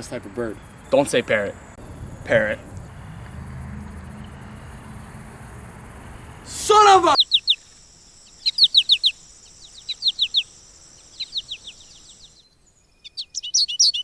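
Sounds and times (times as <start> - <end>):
birds twittering: 0.0 - 14.0
small birds chirping: 0.0 - 14.0.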